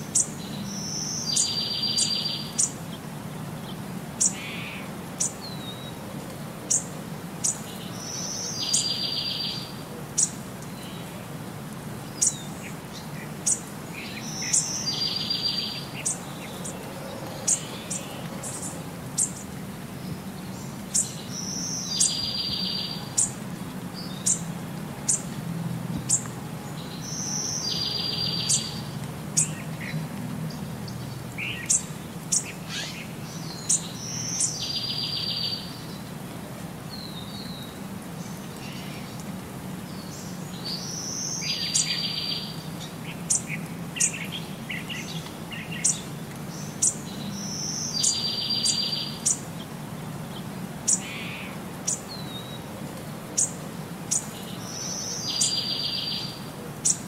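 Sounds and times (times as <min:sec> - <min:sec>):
small birds chirping: 0:00.0 - 0:36.2, 0:36.9 - 0:57.0.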